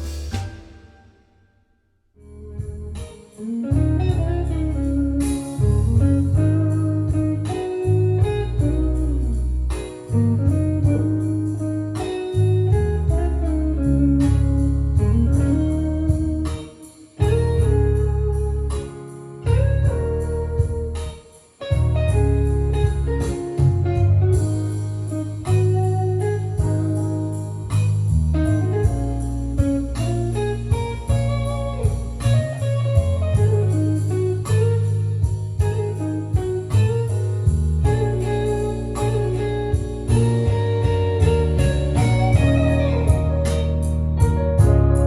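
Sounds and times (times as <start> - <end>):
guitar music through speakers: 2.2 - 45.0.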